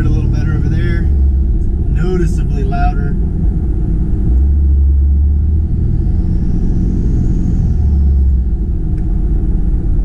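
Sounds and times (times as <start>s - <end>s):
diesel engine low rumble: 0.0s - 10.0s.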